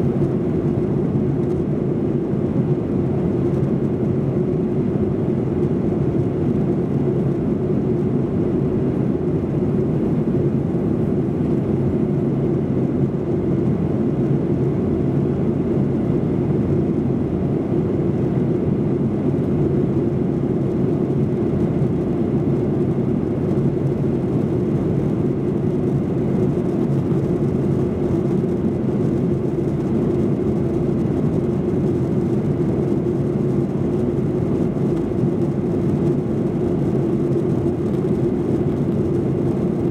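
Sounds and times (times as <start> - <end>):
airflow rushing in cabin: 0.0 - 39.9
airliner engines humming: 0.0 - 39.9.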